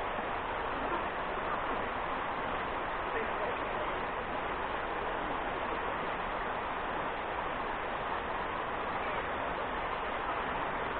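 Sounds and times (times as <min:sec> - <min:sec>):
river water rushing over rocks: 0:00.0 - 0:10.9.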